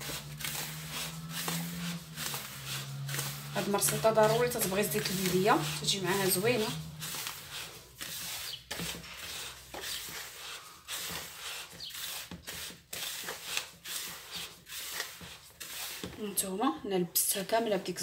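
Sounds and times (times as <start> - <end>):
hands rubbing semolina in bowl: 0.0 - 16.2.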